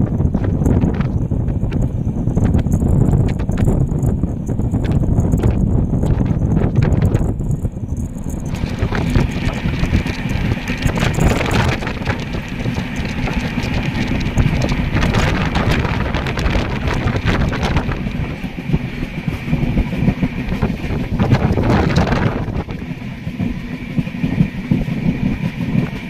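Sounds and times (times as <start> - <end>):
train wheels clattering on rails: 0.0 - 26.0
wind buffeting microphone: 0.0 - 26.0.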